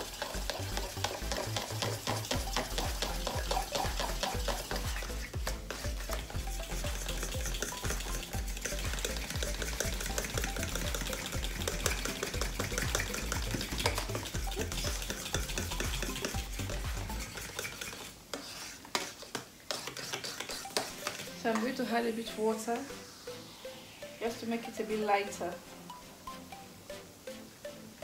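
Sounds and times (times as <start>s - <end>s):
whisk scraping metal bowl: 0.0s - 22.6s.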